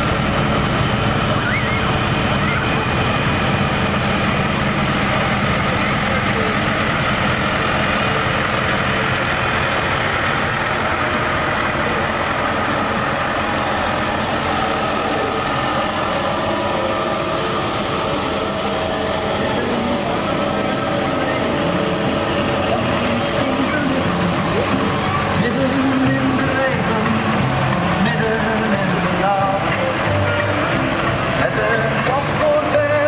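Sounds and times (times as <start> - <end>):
tractor diesel engines running: 0.0 - 33.0.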